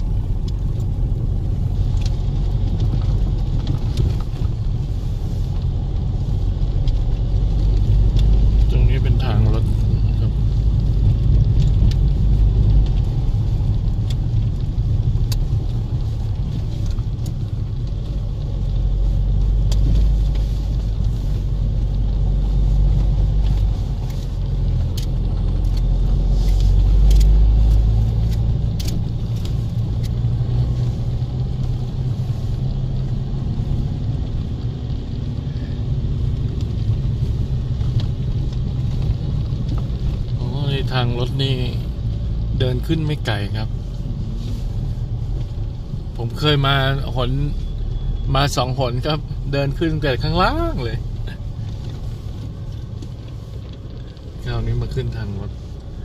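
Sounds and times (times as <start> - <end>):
car engine and tyres rumbling: 0.0 - 56.0
light clicks and rattles in car: 0.0 - 56.0.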